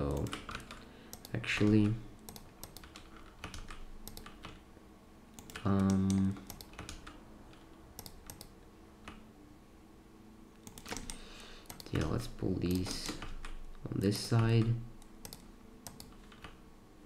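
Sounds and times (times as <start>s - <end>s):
keyboard and mouse clicking: 0.0s - 4.6s, 5.4s - 9.2s, 10.6s - 16.6s.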